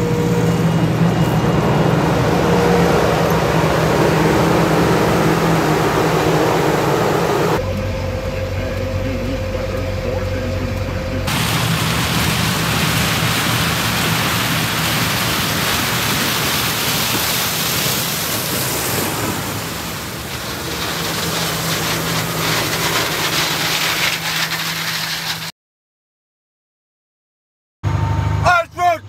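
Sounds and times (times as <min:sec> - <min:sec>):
combine engine hum: 0:00.0 - 0:25.4.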